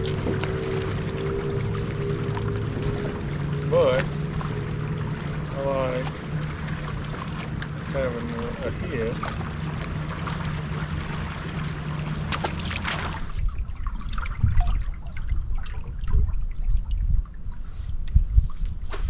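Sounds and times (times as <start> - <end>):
steady low hum: 0.0 - 19.0
water trickling and splashing: 0.0 - 19.0.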